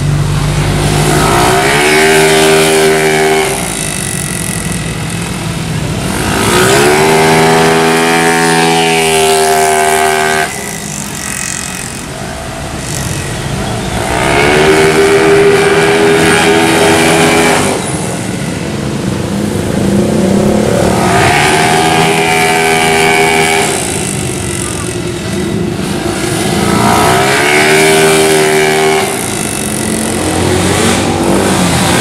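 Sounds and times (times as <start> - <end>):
scooter engine at full throttle: 0.0 - 32.0.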